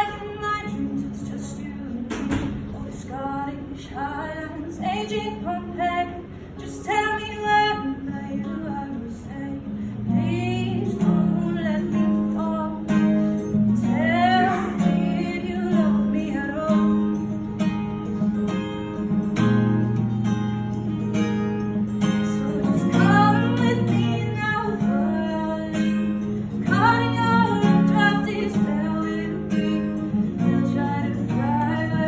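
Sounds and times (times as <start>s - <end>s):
woman singing: 0.0s - 17.7s, 22.0s - 32.0s
strummed acoustic guitar: 0.0s - 32.0s.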